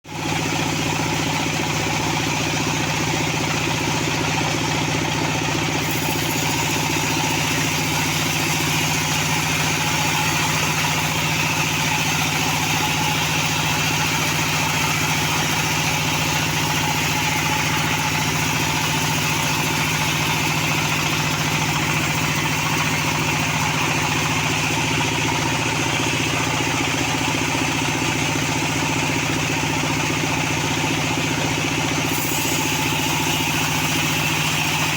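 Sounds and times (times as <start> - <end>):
sawmill engine running: 0.1 - 34.9.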